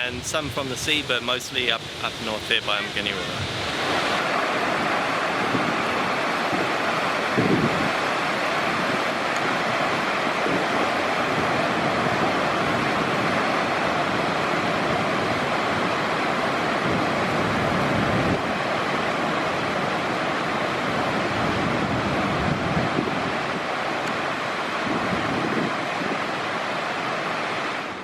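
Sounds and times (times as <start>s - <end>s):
ocean surf washing onto beach: 0.0s - 28.0s
wind gusting on microphone: 0.0s - 28.0s.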